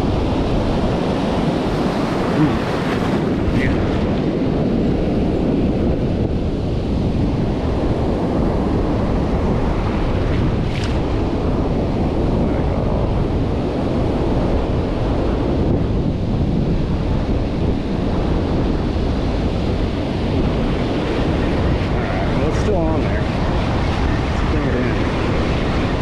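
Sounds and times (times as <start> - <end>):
ocean surf washing: 0.0 - 26.0
wind buffeting microphone: 0.0 - 26.0.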